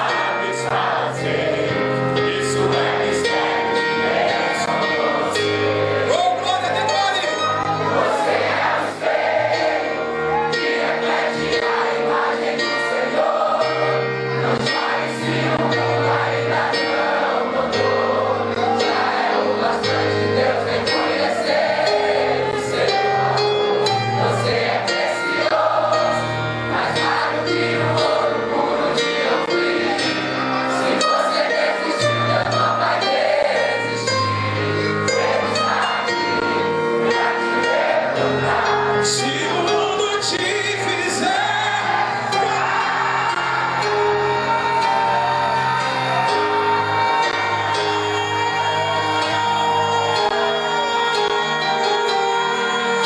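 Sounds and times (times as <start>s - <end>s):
many voices singing together: 0.0s - 6.8s, 7.6s - 53.0s
band playing slow song: 0.0s - 53.0s.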